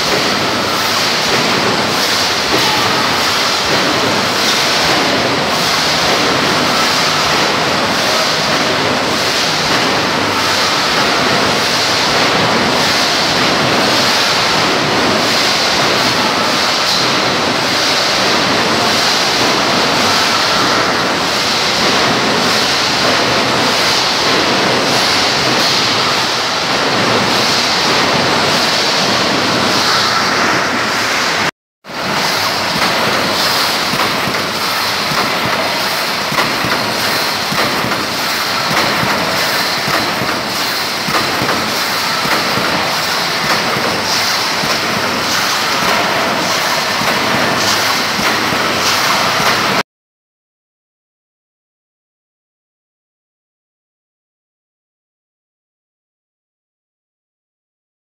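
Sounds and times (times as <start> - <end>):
welding machine pulsing noise: 0.0 - 49.8.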